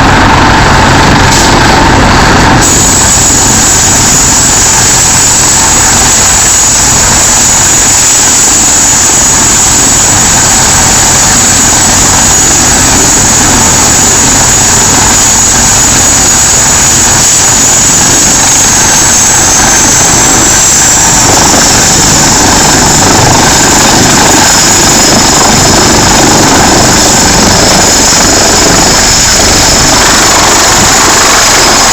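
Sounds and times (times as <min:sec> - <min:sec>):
helicopter turbine and rotor noise: 0:00.0 - 0:31.9.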